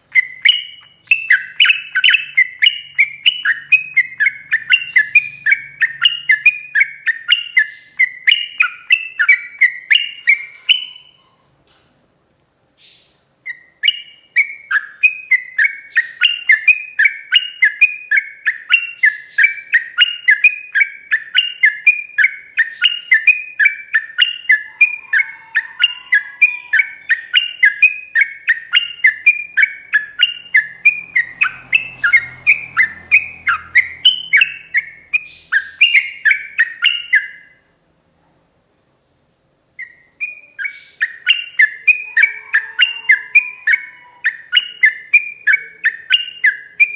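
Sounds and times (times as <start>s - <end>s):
bird singing repeated chirps: 0.1s - 11.3s, 12.8s - 37.6s, 39.8s - 46.9s.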